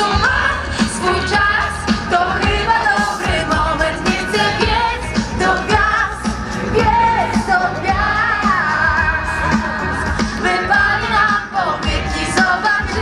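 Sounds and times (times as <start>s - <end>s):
crowd singing along: 0.0s - 13.0s
singers and band performing: 0.0s - 13.0s.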